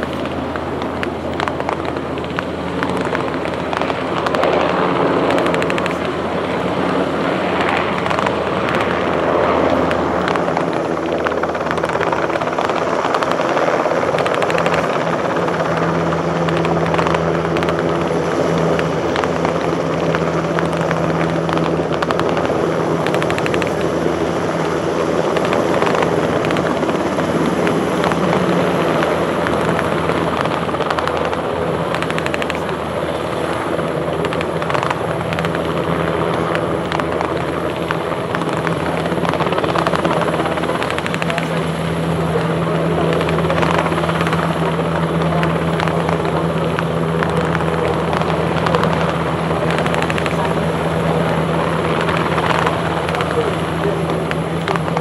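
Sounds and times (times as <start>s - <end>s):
helicopter flying low: 0.0s - 55.0s.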